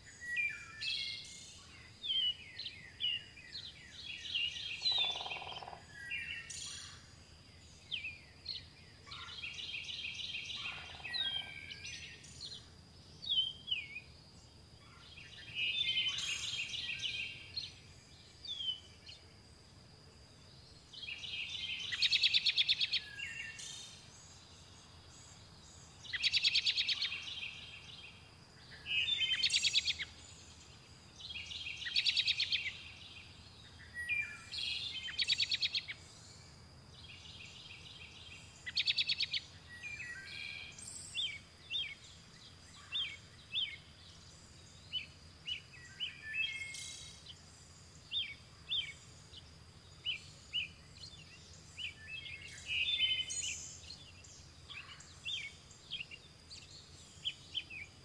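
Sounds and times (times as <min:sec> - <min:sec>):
songbirds trilling: 0:00.0 - 0:19.2, 0:20.4 - 0:58.0.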